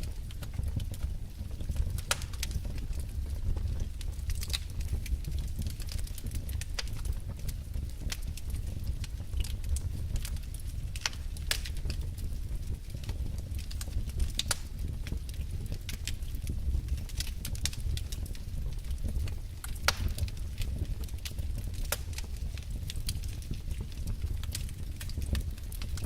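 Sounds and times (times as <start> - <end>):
crackles and pops of burning logs: 0.0 - 26.0
low rumble of flames: 0.0 - 26.0.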